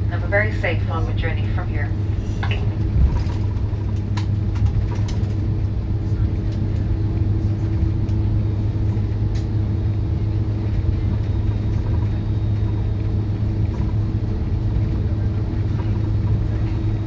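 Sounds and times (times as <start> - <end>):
aircraft cabin low rumble: 0.0 - 17.0
steady hum: 0.0 - 17.0.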